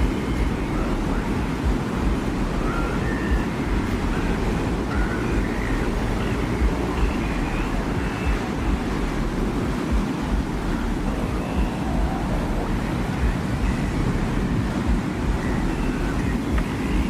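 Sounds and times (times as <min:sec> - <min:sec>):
faint whistling tones: 0:00.0 - 0:17.0
wind with low rumble: 0:00.0 - 0:17.0.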